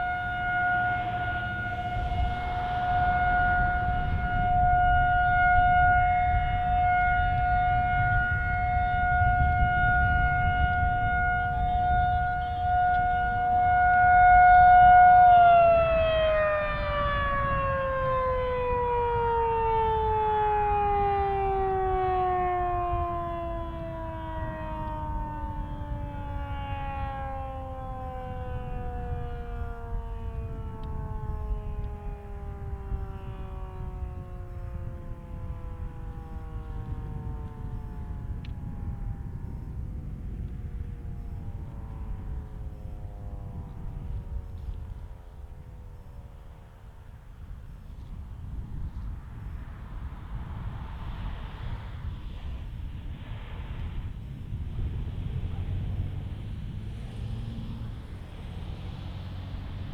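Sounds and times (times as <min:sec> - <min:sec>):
siren winding down: 0:00.0 - 0:49.1, 0:54.1 - 0:59.9
electromechanical siren steady tone: 0:00.0 - 0:59.9.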